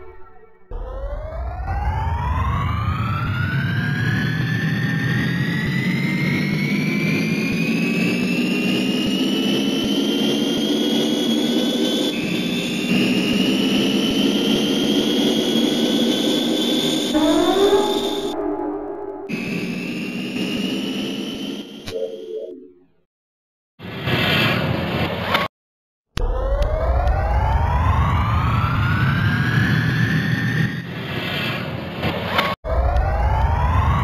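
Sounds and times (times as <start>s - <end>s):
jet turbine engine whine: 0.7s - 21.9s, 26.2s - 31.6s, 32.7s - 34.0s.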